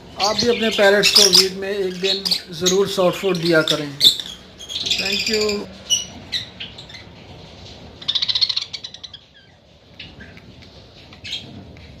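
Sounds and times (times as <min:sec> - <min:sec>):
budgerigars chirping: 0:00.2 - 0:07.2, 0:08.0 - 0:10.4, 0:11.2 - 0:11.6.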